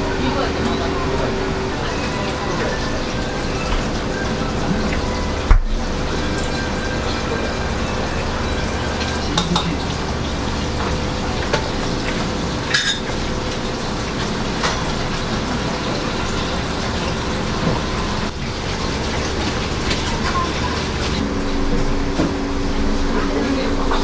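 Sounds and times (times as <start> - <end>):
low machine hum: 0.0 - 24.0
running water: 0.0 - 24.0.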